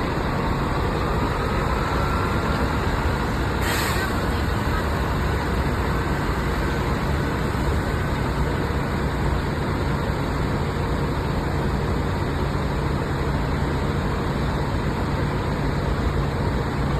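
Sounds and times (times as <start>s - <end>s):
bus diesel engine humming: 0.0s - 16.9s
road noise: 0.0s - 16.9s.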